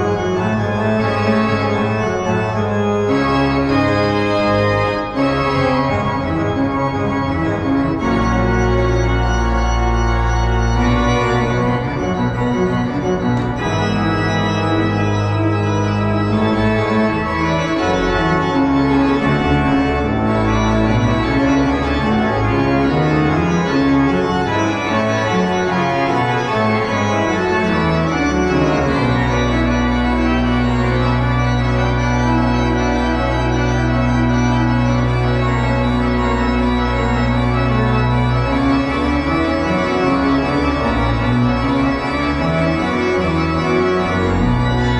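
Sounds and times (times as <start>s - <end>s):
organ music: 0.0s - 44.9s.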